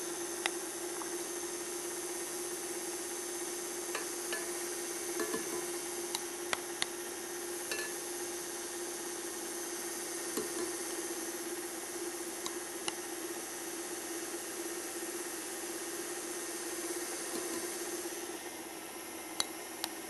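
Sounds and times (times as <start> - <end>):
stand mixer humming: 0.0 - 20.0.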